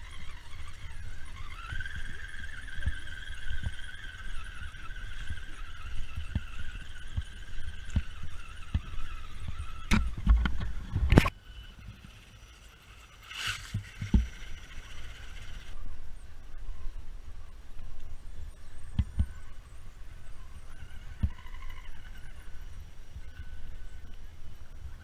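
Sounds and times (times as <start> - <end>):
electric motor and gearbox whining: 0.0 - 15.8, 20.2 - 24.4.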